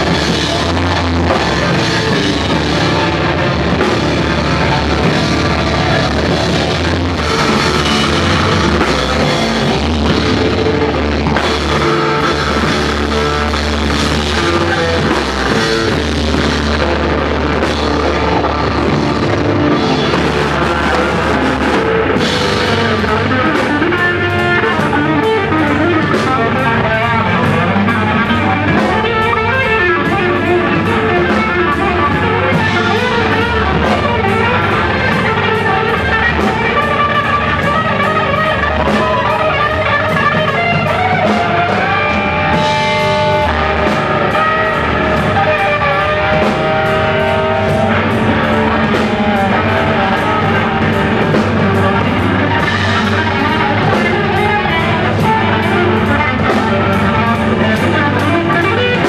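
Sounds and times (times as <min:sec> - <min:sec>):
drum kit: 0:00.0 - 0:59.0
electric guitar: 0:00.0 - 0:59.0
fretless bass: 0:00.0 - 0:59.0.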